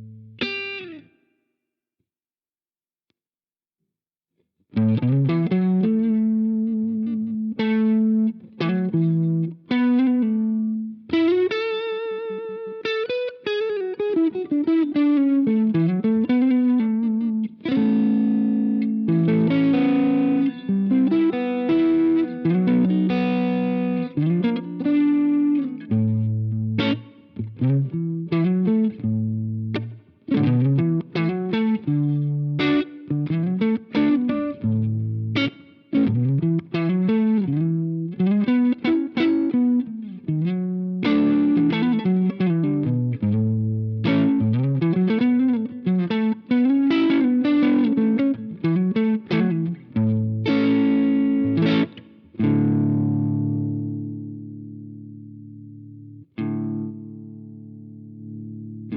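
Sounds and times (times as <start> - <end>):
overdriven electric guitar: 0.0 - 1.3, 4.7 - 58.9.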